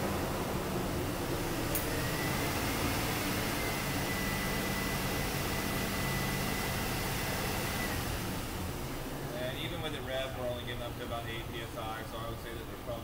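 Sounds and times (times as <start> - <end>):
car engine running at raised revs: 0.0 - 13.0.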